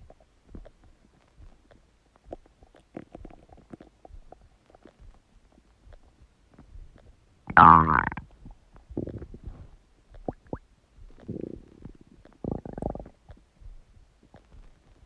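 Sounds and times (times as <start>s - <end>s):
stomach gurgling and rumbling: 0.0s - 15.0s.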